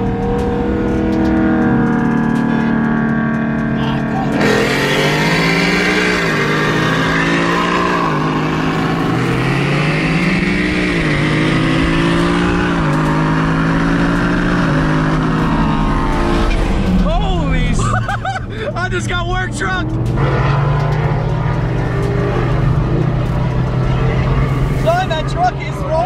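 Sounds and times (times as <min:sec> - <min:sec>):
car engine accelerating through gears: 0:00.0 - 0:26.0.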